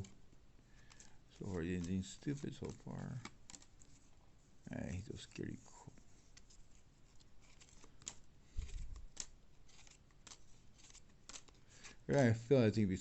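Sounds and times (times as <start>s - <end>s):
cards scraping and clicking: 0.0s - 4.2s, 5.2s - 12.2s.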